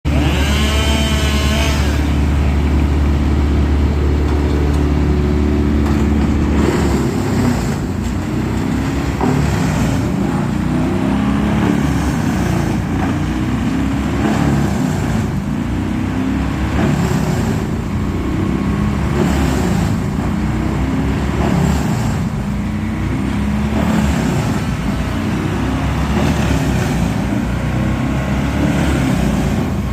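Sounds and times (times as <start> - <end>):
crane engine revving: 0.1 - 29.9.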